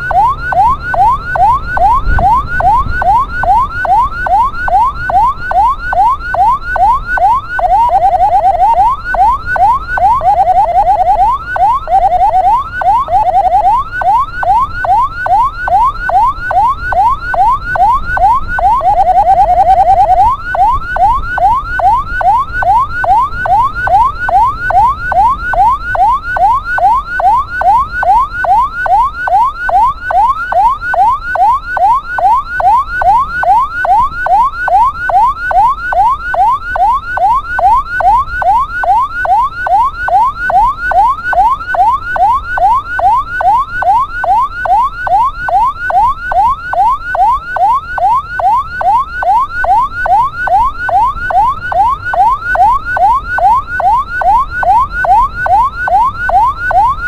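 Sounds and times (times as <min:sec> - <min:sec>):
ambulance siren yelping: 0:00.0 - 0:57.0.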